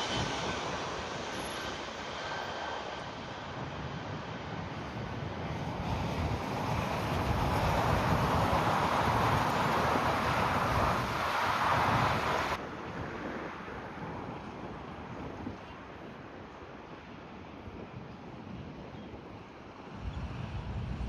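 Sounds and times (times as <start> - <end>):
jet airliner engine roar: 0.0 - 21.0
wind buffeting microphone: 0.0 - 21.0.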